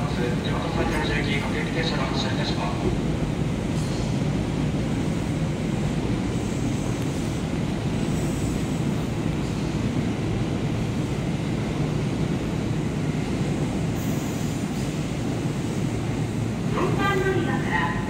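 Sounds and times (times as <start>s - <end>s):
electric train low rumble: 0.0s - 18.0s.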